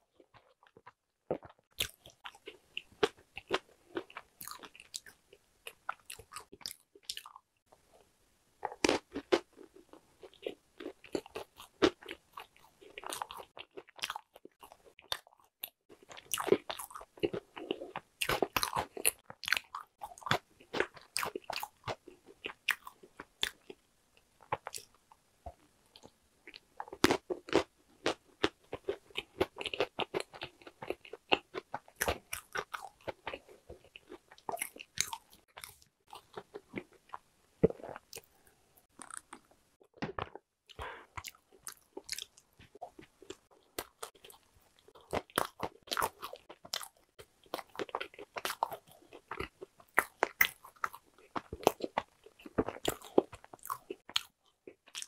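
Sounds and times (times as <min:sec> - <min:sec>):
crisp crunching chewing: 0:00.2 - 0:07.4, 0:08.6 - 0:23.8, 0:26.0 - 0:55.0.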